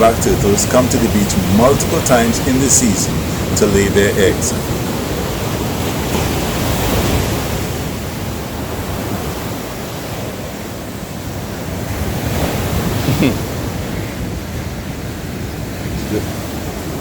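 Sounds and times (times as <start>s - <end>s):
surf breaking on beach: 0.0s - 17.0s.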